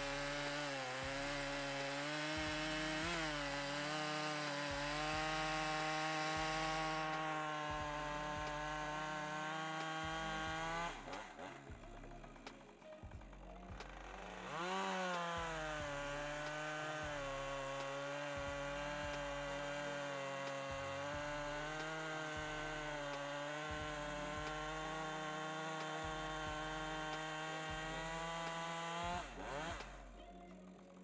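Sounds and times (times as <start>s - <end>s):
chainsaw cutting through log: 0.0s - 31.0s.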